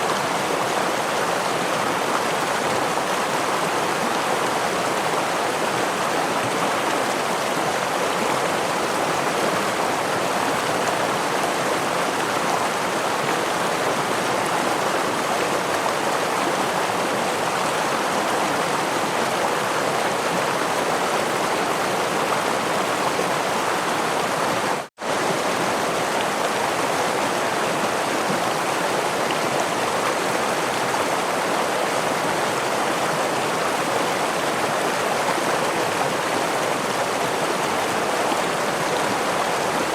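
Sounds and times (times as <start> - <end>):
stream rushing over small waterfall: 0.0 - 39.9.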